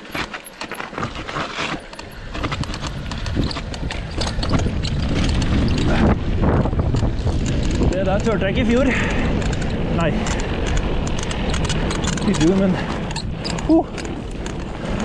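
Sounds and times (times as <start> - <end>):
mountain bike rattling and clicking: 0.0 - 15.0
wind rumble on microphone: 2.1 - 15.0.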